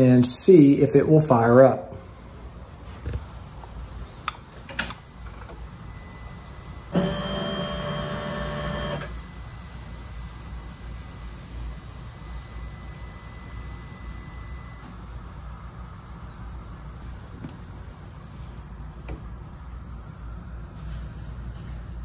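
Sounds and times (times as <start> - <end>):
faint high electronic whine: 0.0 - 22.0.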